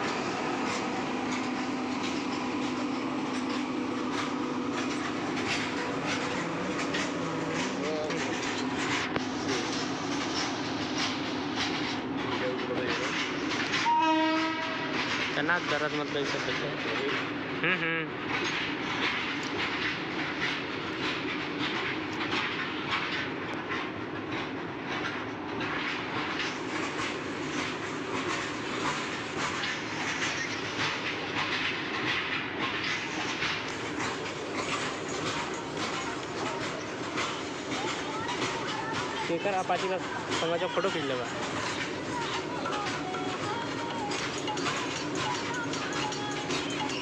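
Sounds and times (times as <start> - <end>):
train running with low hum: 0.0 - 47.0
wheels clicking over rail joints: 0.0 - 47.0.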